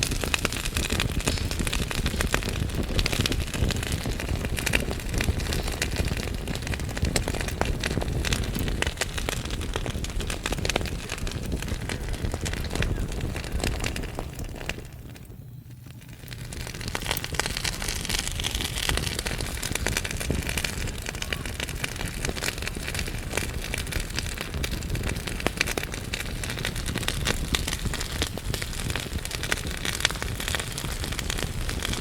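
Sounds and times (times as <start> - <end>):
burning logs crackling: 0.0 - 32.0
low rumble of flames: 0.0 - 32.0.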